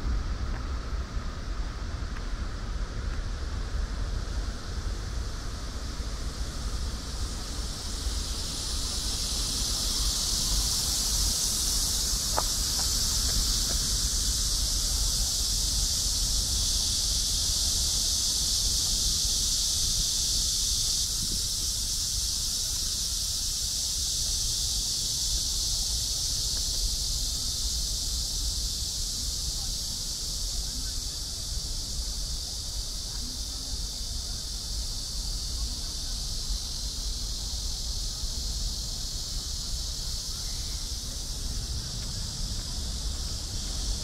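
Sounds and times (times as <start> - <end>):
high-pitched insect chorus: 0.0 - 44.0.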